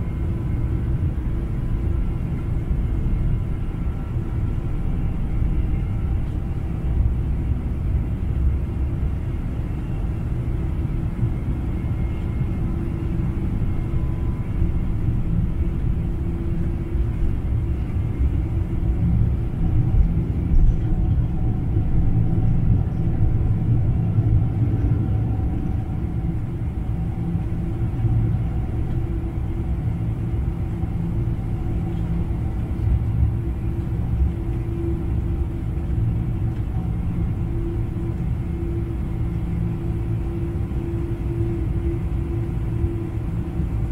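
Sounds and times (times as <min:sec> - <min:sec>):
jet engines rumbling in cabin: 0:00.0 - 0:43.9.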